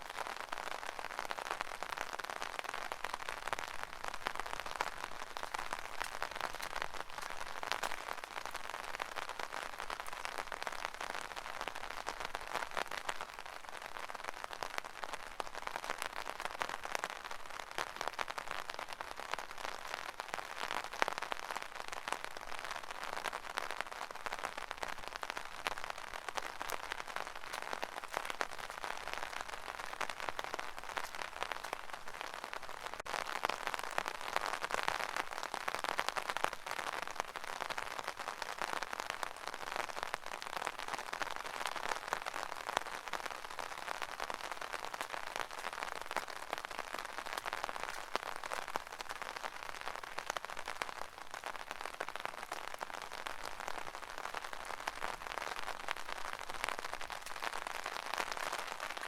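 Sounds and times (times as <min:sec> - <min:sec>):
rain pattering on an umbrella: 0:00.0 - 0:59.0.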